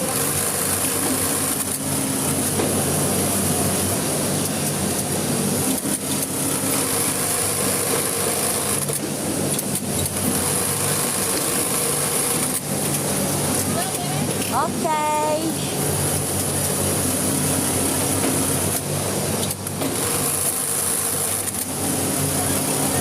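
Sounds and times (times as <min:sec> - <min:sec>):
electric sewing machine running: 0:00.0 - 0:14.0, 0:15.8 - 0:23.0.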